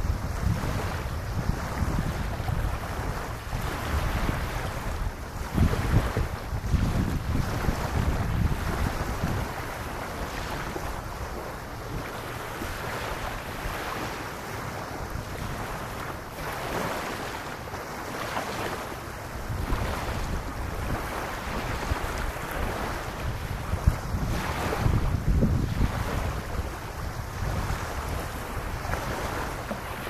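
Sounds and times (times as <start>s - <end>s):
small waves lapping on beach: 0.0s - 30.0s
wind rumbling on microphone: 0.0s - 30.0s.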